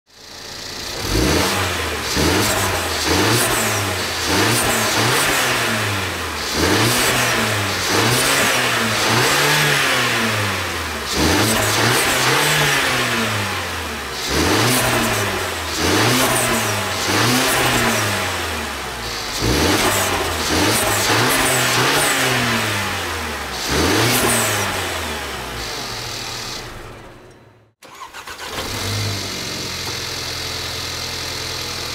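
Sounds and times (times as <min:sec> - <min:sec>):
car engine revving: 0:00.6 - 0:30.8.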